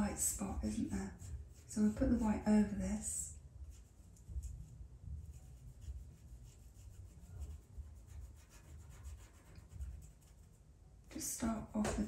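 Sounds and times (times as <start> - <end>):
pencil scratching on paper: 0.0 - 2.8, 3.6 - 10.6.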